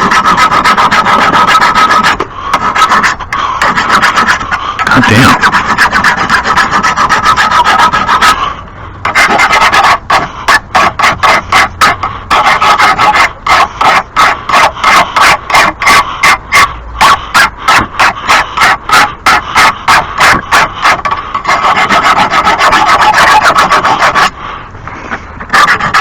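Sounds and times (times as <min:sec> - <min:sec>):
hand file rasping on steel blade: 0:00.0 - 0:24.4, 0:25.4 - 0:26.0.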